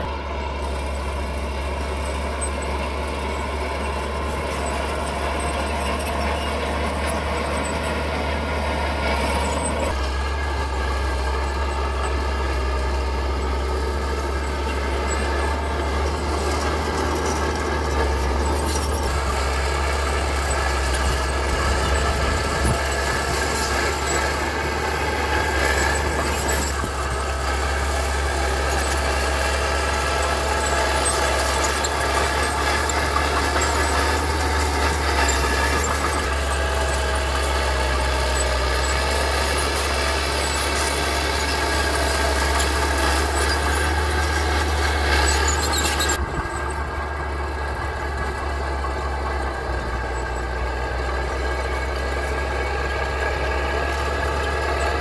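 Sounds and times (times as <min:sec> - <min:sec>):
bulldozer engine running: 0:00.0 - 0:55.0
high squeal: 0:00.0 - 0:55.0.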